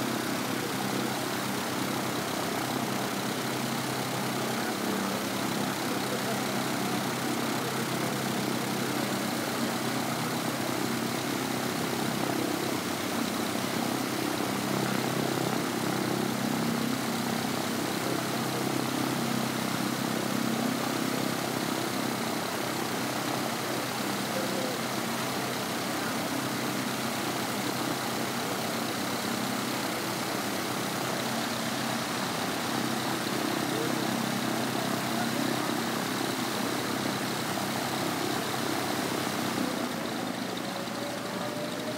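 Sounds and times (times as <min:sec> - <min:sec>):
small plane engine idling: 0:00.0 - 0:41.9.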